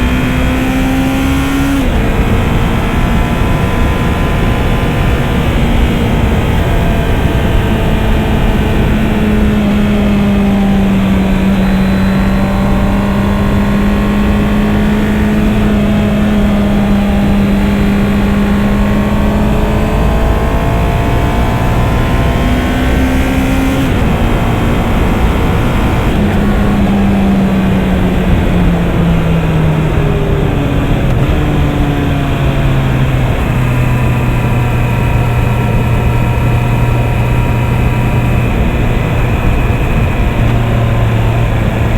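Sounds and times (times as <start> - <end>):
motorcycle engine cruising: 0.0 - 41.9
wind and road rush: 0.0 - 41.9.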